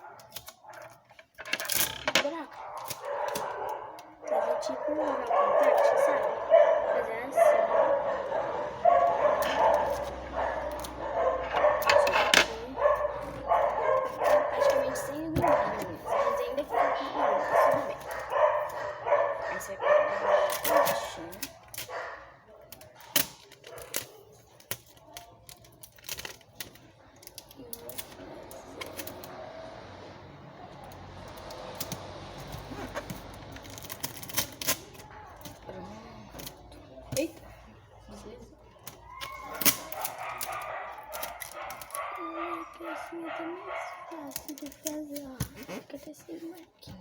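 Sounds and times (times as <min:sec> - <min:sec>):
faint steady background noise: 0:00.0 - 0:47.0.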